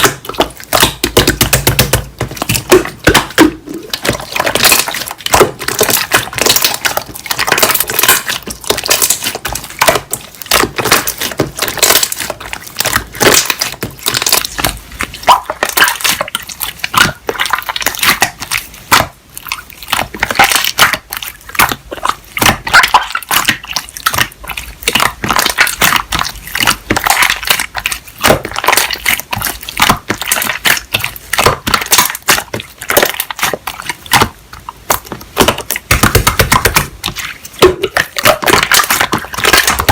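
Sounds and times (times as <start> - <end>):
slime squeezed crackling pops: 0.0 - 39.9.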